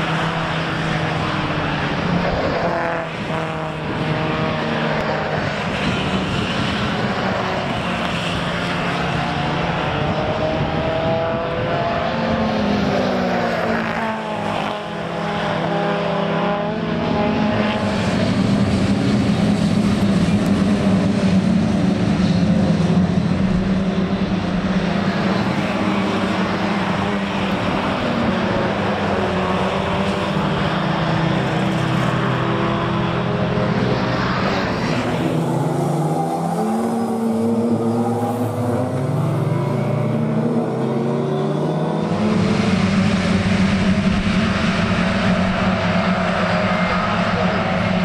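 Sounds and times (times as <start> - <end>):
racing car engines: 0.0 - 48.0.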